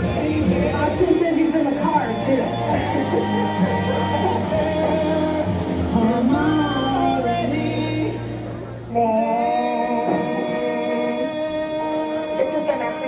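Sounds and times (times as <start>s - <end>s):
song with singing over chords: 0.0s - 13.0s.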